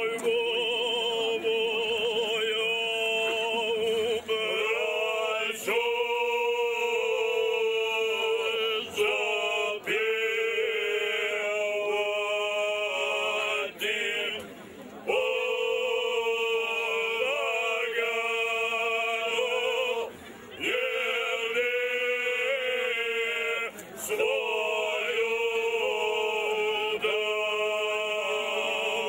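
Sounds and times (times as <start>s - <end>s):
men singing unaccompanied folk song: 0.0s - 29.0s.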